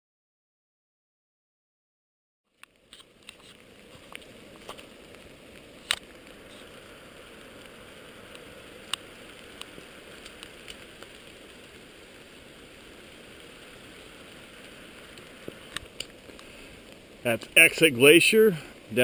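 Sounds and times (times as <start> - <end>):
light rain on leaves: 2.5 - 19.0.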